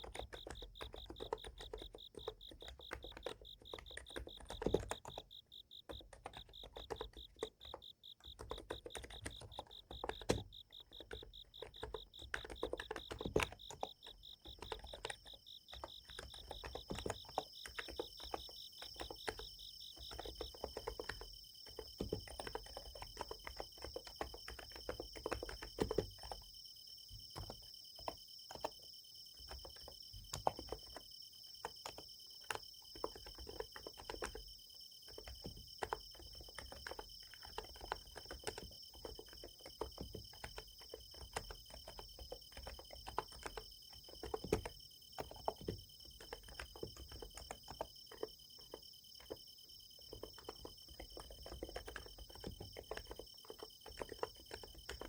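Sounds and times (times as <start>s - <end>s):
insects chirping: 0.0s - 55.0s
keyboard typing clicks: 0.0s - 55.0s.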